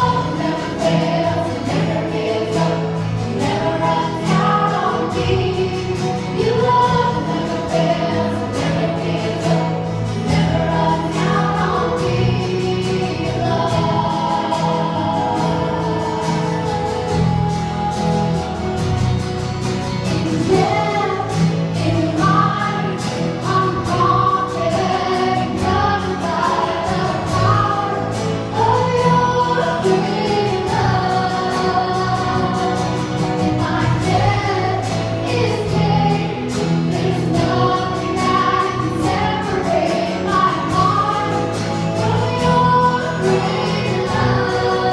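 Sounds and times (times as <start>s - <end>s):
choir singing gospel music: 0.0s - 44.9s
instrumental accompaniment: 0.0s - 44.9s.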